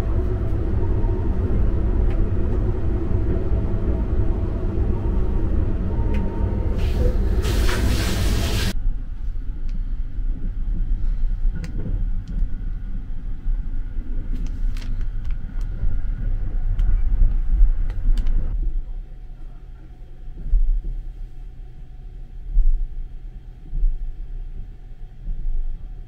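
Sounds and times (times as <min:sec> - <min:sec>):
train running rumble: 0:00.0 - 0:21.4.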